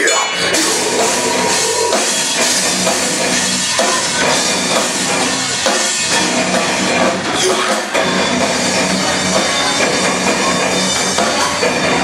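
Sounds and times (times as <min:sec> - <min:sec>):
drum kit: 0:00.0 - 0:12.0
electric guitars: 0:00.3 - 0:12.0.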